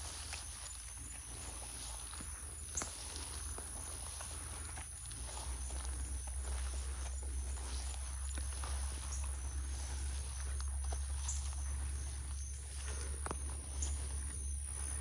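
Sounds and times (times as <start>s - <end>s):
footsteps in wet grass: 0.0s - 15.0s
low steady rumble: 0.0s - 15.0s.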